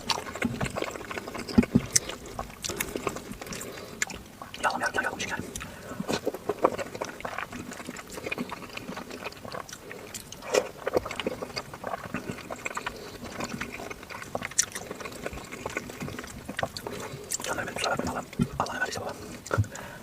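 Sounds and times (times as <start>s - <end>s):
person chewing with mouth clicks: 0.0s - 20.0s.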